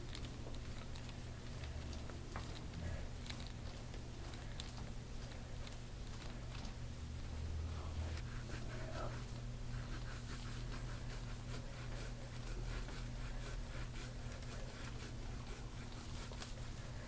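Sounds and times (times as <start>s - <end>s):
massage rubbing strokes: 0.0s - 17.0s
steady low hum: 0.0s - 17.0s.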